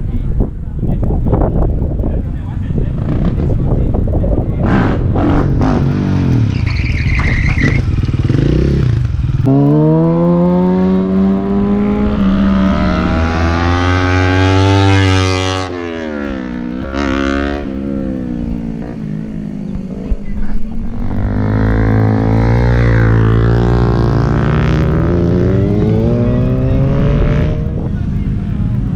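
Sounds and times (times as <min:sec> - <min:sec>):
second motorcycle engine: 0:01.3 - 0:28.9
superbike engine accelerating: 0:02.8 - 0:28.9.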